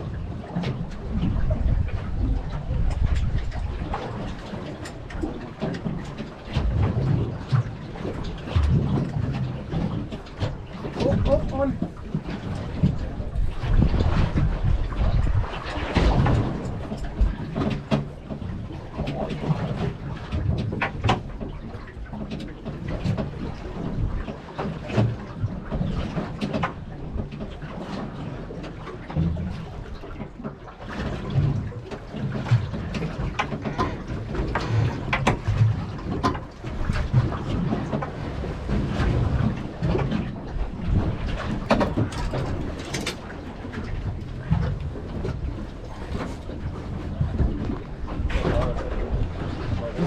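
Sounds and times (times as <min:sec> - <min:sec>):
rumbling wind: 0:00.0 - 0:50.0
water noise: 0:00.0 - 0:50.0.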